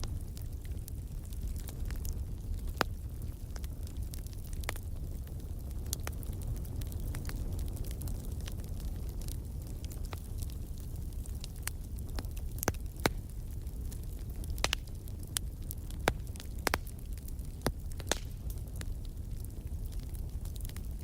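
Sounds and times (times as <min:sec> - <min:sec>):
fire rumbling: 0:00.0 - 0:21.0
wood fire crackles and pops: 0:00.0 - 0:21.0.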